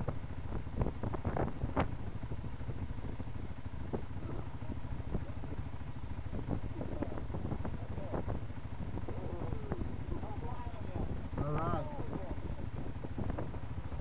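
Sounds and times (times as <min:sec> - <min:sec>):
engines idling: 0:00.0 - 0:14.0.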